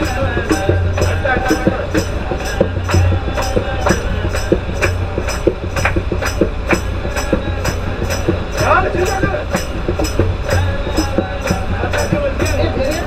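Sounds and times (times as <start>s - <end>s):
tambourine-like percussion: 0.0s - 13.0s.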